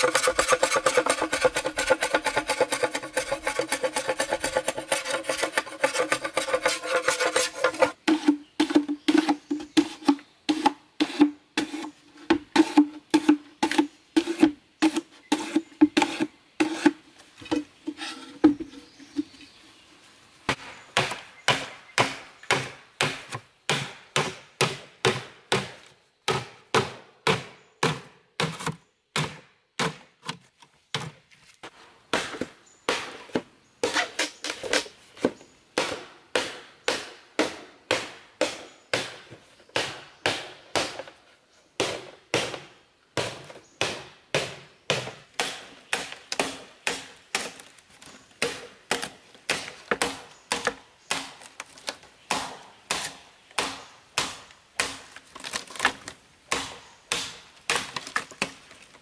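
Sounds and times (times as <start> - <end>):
knife chopping bamboo: 0.0 - 17.6, 20.5 - 31.2, 32.1 - 41.1, 41.8 - 47.7, 48.4 - 58.6.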